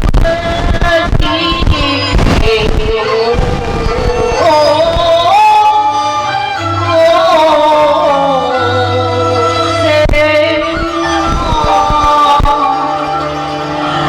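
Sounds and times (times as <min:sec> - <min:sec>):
low bass notes: 0:00.0 - 0:14.0
opera singing: 0:00.0 - 0:14.0.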